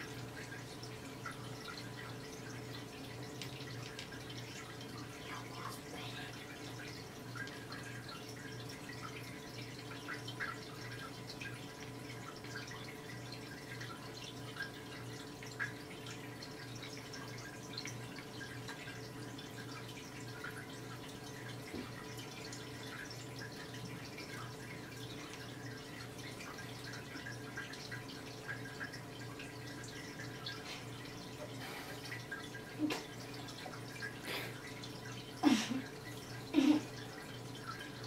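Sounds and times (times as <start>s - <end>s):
water drips and bubbles: 0.0s - 38.0s.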